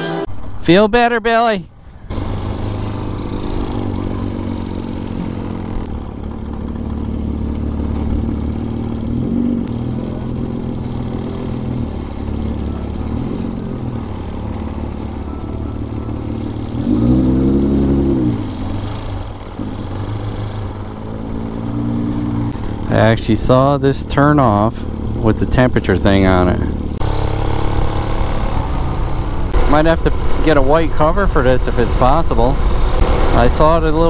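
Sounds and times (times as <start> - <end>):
motorcycle engine running: 1.9 - 34.0.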